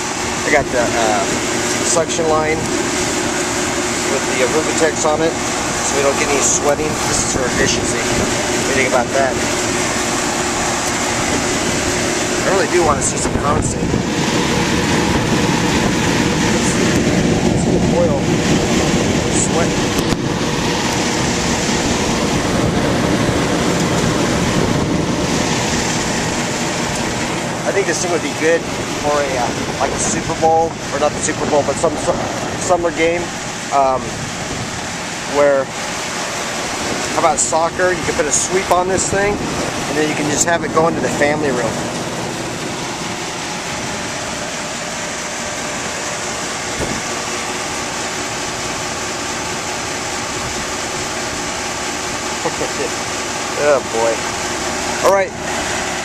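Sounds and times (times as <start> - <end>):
air conditioner fan rushing: 0.0 - 56.0.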